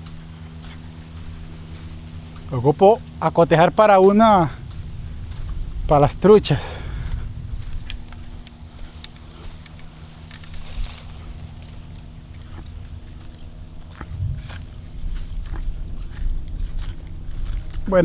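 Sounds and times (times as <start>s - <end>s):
insects trilling: 0.0s - 18.0s
low rumble: 0.0s - 18.0s.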